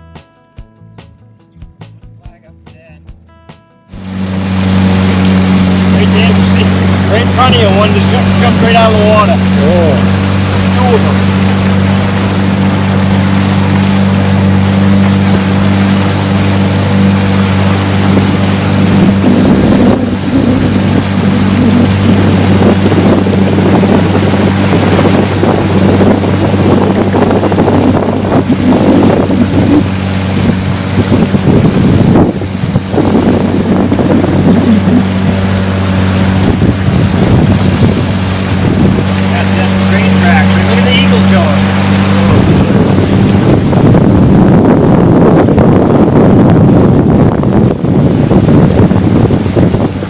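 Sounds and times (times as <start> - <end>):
boat motor humming: 0.0 - 50.0
wind noise on microphone: 3.9 - 50.0.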